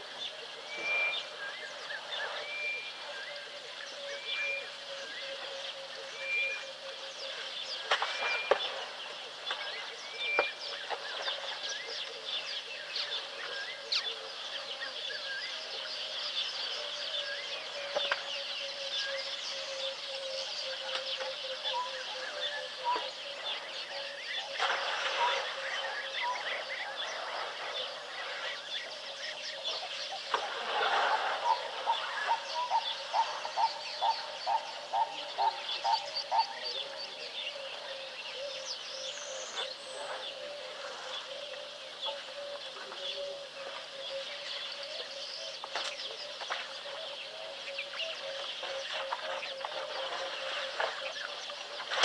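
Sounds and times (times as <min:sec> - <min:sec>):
whistled bird notes: 0:00.0 - 0:14.2, 0:14.8 - 0:51.8
birds chirping: 0:00.0 - 0:52.0.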